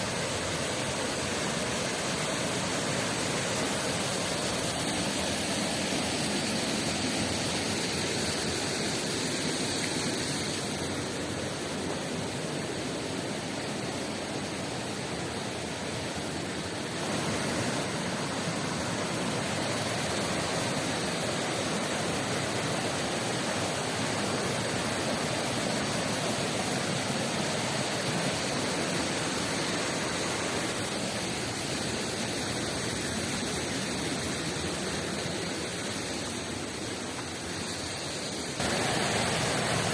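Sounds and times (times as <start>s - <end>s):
rushing mountain river: 0.0s - 39.9s.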